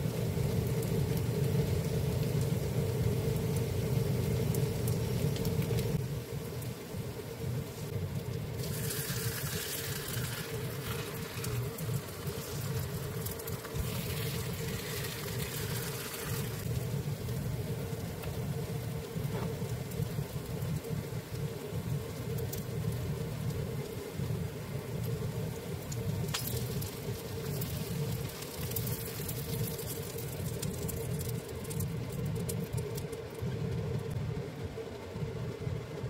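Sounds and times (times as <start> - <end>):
pancakes sizzling in oil: 0.0 - 33.4
steady low hum: 0.0 - 36.0.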